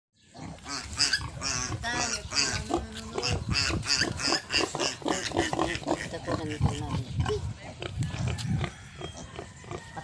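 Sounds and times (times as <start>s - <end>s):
piglets grunting and squealing: 0.2s - 10.0s.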